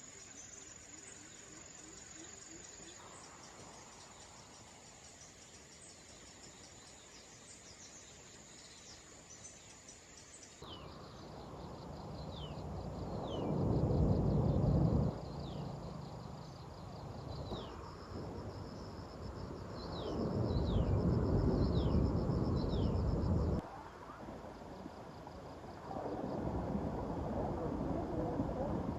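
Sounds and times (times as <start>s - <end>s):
insects trilling: 0.0s - 28.9s.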